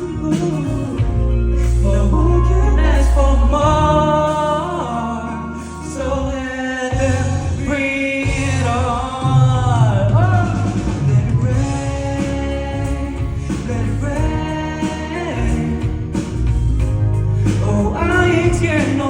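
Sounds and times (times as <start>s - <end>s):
person singing: 0.0s - 16.6s, 17.3s - 19.0s
instrumental backing music: 0.0s - 19.0s.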